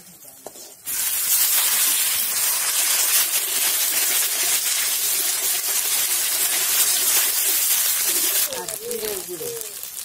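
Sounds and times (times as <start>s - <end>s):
spatula stirring in wok: 0.0s - 8.8s
onions sizzling in hot oil: 0.0s - 10.0s.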